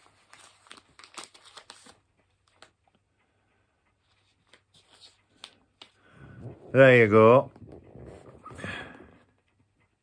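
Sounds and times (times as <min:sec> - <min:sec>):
paper rustling and tapping: 0:00.0 - 0:03.0, 0:04.0 - 0:09.6.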